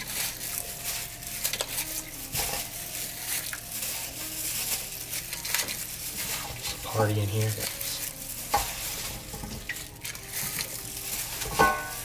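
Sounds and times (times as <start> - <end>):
water sloshing and splashing in pot: 0.0 - 12.0.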